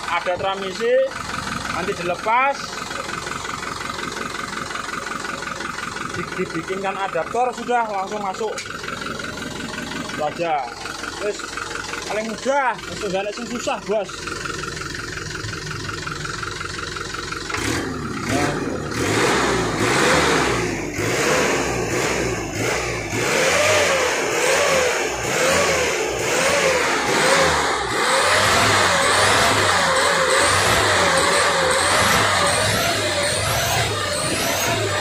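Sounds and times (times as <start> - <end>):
diesel truck engine revving: 6.1 - 35.0.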